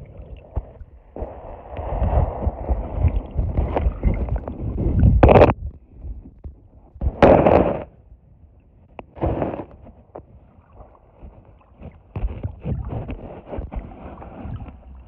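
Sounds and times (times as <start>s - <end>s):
muffled water rushing and sloshing: 0.0s - 15.0s.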